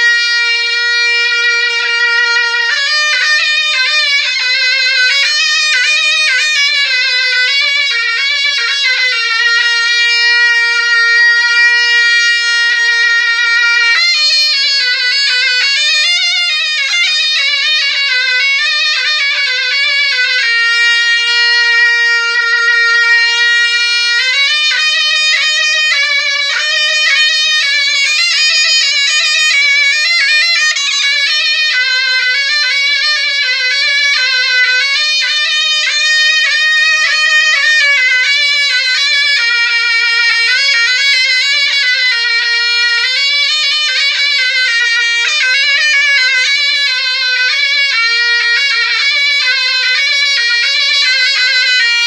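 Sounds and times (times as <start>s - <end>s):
double-reed shawm melody: 0.0s - 52.0s.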